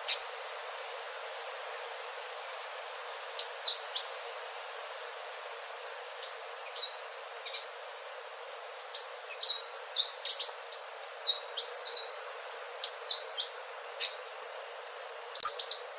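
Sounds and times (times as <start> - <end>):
steady hiss: 0.0 - 15.9.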